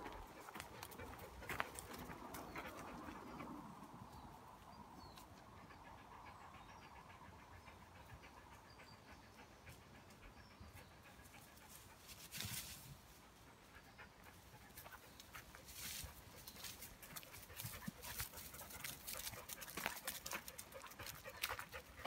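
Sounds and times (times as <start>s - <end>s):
dog panting: 0.0s - 4.3s, 5.0s - 12.1s, 13.1s - 22.0s.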